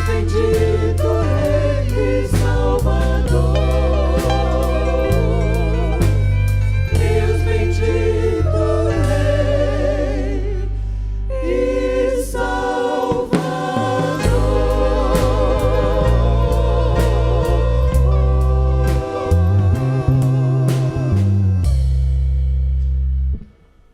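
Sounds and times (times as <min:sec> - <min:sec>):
drums: 0:00.0 - 0:09.9, 0:12.4 - 0:22.6
voices singing gospel: 0:00.0 - 0:21.9
bass: 0:00.0 - 0:23.9.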